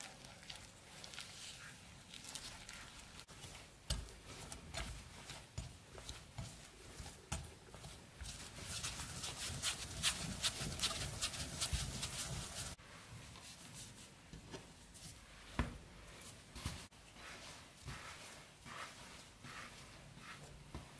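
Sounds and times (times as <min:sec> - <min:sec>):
hands kneading dough: 0:00.0 - 0:20.9.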